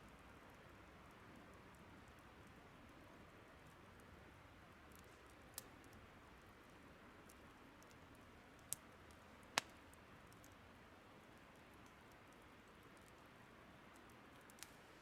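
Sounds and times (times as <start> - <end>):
faint fire hiss: 0.0 - 15.0
firewood crackling and popping: 0.2 - 15.0.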